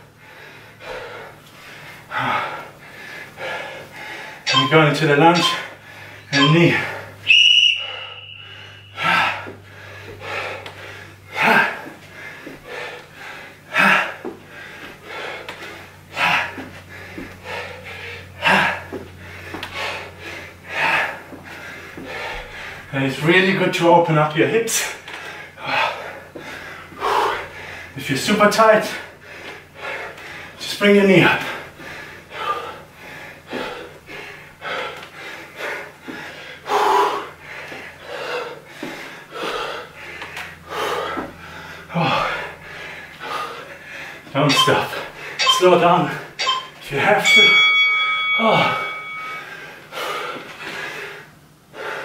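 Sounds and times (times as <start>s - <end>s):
man breathing hard: 0.0s - 4.6s, 5.4s - 22.9s, 24.9s - 28.0s, 28.9s - 30.6s, 31.4s - 45.5s, 47.6s - 52.0s.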